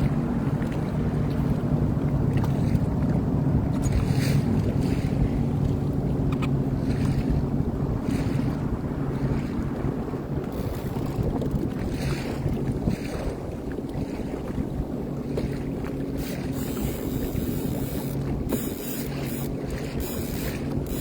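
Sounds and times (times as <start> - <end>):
watercraft engine droning: 0.0 - 21.0
wind buffeting microphone: 0.0 - 21.0.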